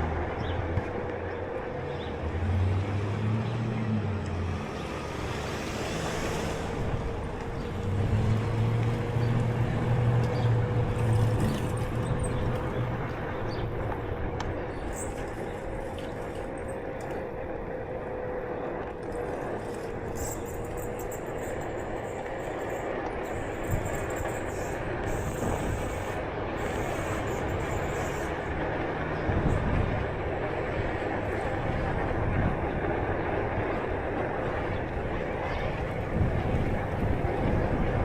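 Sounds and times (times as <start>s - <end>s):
road noise: 0.0s - 38.0s
vehicles passing: 0.0s - 38.0s.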